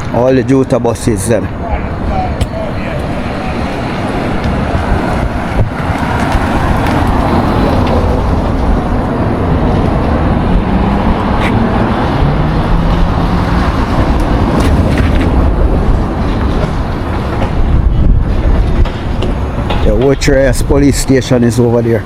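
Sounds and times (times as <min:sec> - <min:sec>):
vehicle road noise: 0:00.0 - 0:22.0.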